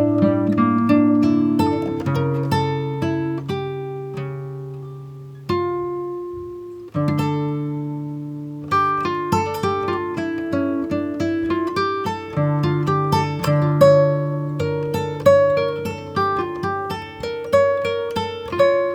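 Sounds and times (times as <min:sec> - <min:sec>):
acoustic guitar picking: 0:00.0 - 0:18.9.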